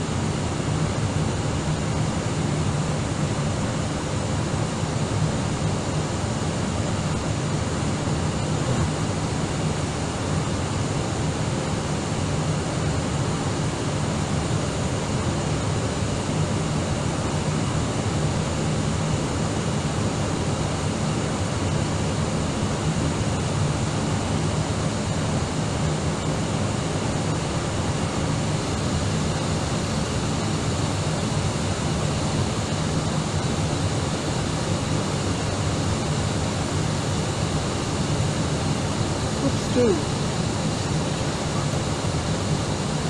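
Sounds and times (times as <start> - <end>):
faint jet engine whines: 0.0 - 43.0.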